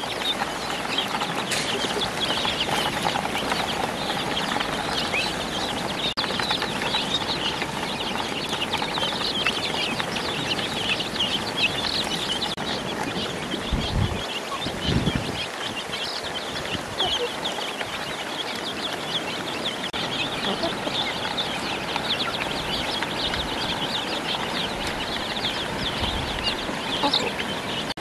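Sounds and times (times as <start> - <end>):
chicks and ducklings peeping: 0.0 - 28.0.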